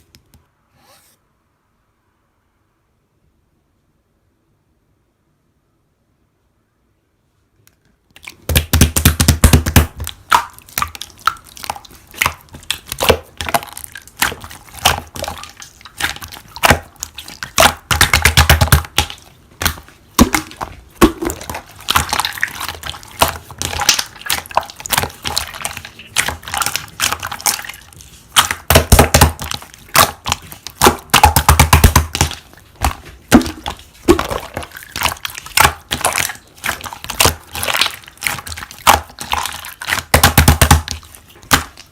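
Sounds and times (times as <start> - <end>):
slime clicking and popping: 8.1 - 41.9
slime squelching: 8.1 - 41.9.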